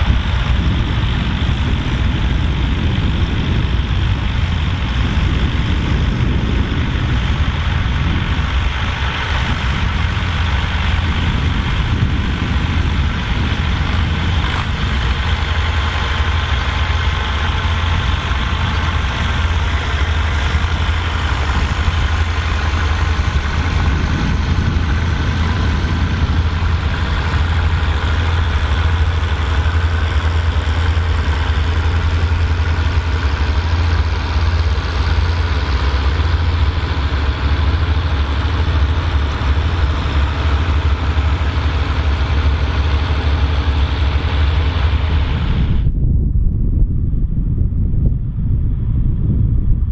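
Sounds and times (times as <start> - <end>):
tractor diesel engine drone: 0.0 - 49.9.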